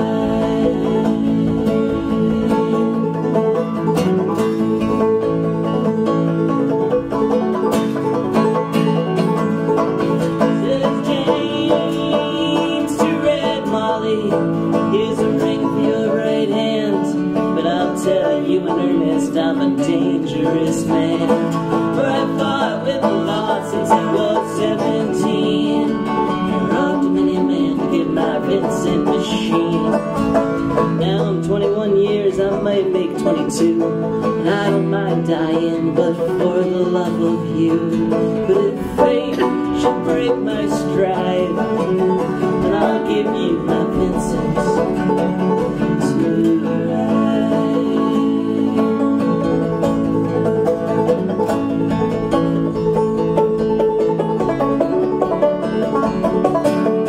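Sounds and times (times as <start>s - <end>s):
banjo picking: 0.0s - 57.0s
strummed acoustic guitar: 0.0s - 57.0s.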